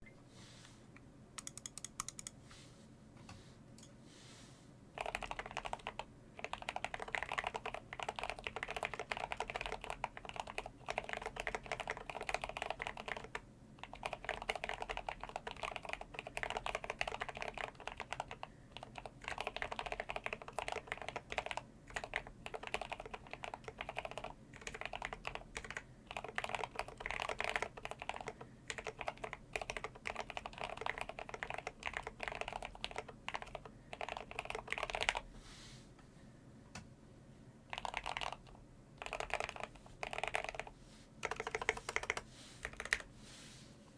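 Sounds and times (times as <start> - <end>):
mechanical keyboard typing: 1.4 - 2.4, 5.0 - 35.2, 37.7 - 43.1.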